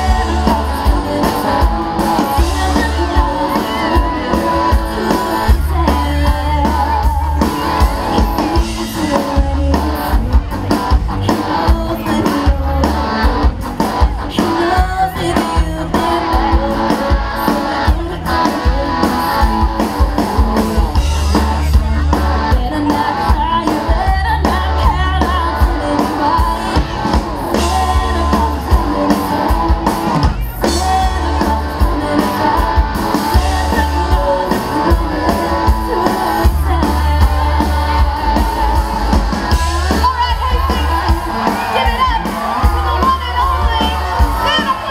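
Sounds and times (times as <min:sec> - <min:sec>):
woman singing into a microphone: 0:00.0 - 0:10.5, 0:11.1 - 0:13.6, 0:14.3 - 0:20.8, 0:22.2 - 0:44.9
drums: 0:00.0 - 0:44.9
electric guitar: 0:00.0 - 0:44.9.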